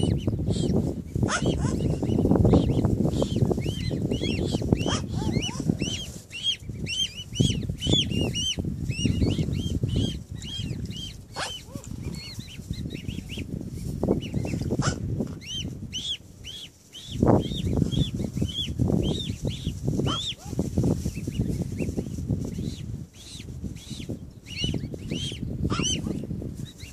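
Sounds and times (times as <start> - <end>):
cygnets peeping: 0.0 - 26.9.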